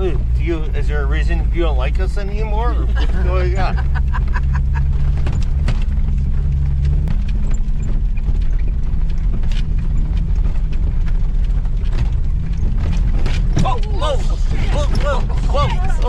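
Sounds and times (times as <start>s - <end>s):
engine and drivetrain rumble: 0.0s - 16.0s.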